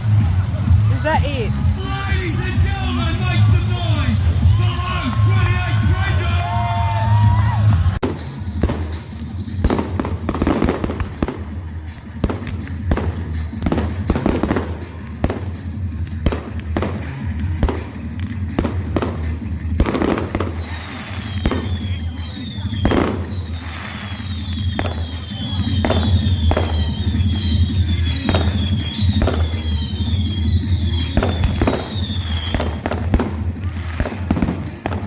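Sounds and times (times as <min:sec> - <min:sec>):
fireworks bangs and crackles: 0:00.0 - 0:35.0
fireworks whistling: 0:01.0 - 0:07.2, 0:07.9 - 0:35.0.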